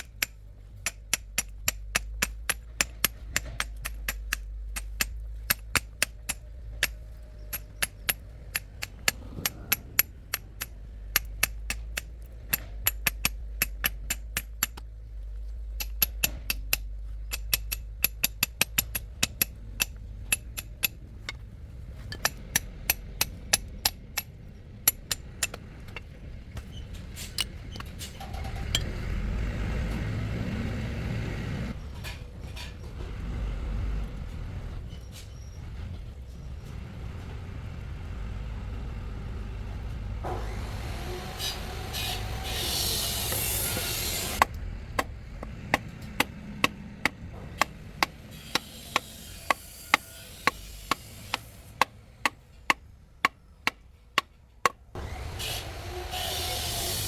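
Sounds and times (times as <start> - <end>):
low rumbling: 0.0 - 55.9.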